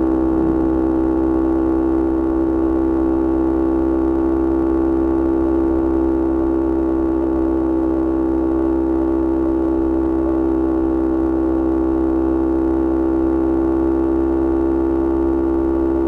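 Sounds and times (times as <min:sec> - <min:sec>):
motorcycle engine steady tone: 0:00.0 - 0:16.0.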